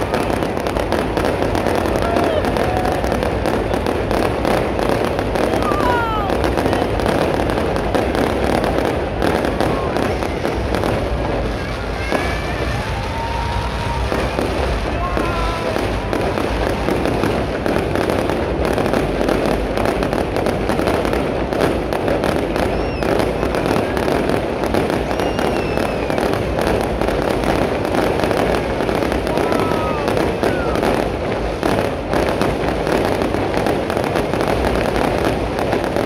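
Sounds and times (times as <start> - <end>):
fireworks crackling and popping: 0.0 - 36.0.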